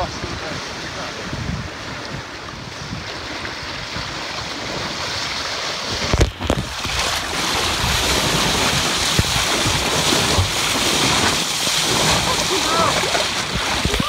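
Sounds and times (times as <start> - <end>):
water rushing along canoe hull: 0.0 - 14.0
wind buffeting microphone: 0.0 - 14.0.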